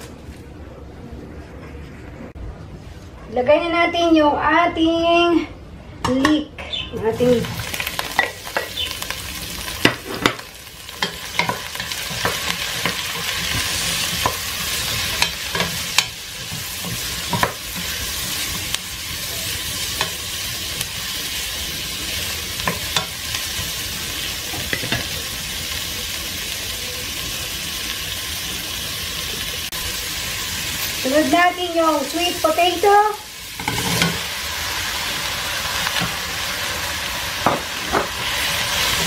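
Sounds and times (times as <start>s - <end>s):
leeks sizzling in a pot: 7.0s - 39.0s.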